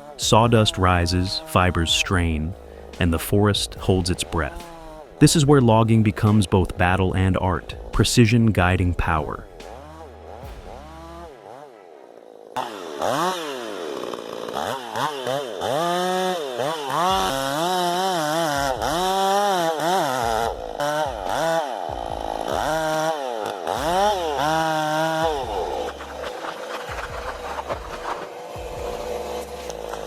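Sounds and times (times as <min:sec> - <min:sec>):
chainsaw cutting timber: 0:00.0 - 0:30.0.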